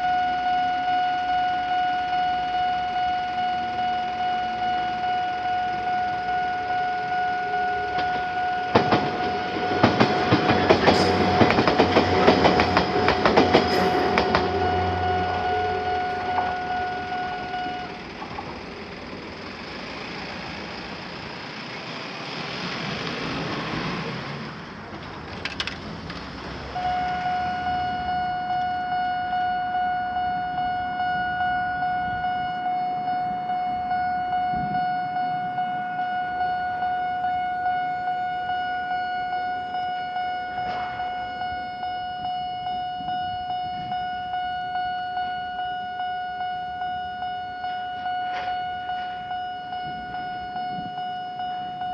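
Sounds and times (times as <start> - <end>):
level crossing alarm bell dinging: 0.0 - 18.2, 26.8 - 51.9
rumble of passing train: 0.0 - 51.9.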